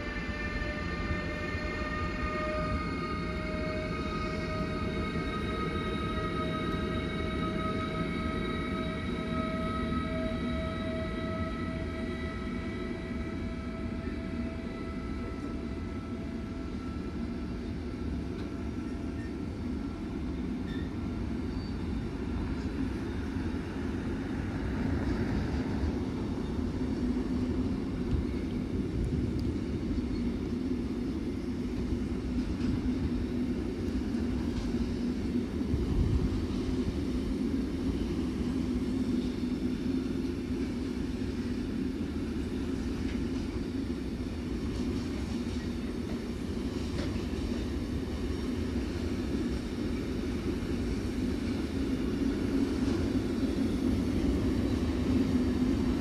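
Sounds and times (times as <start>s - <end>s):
electric locomotive whine: 0.0s - 56.0s
train wheels rumbling on rail: 0.0s - 56.0s.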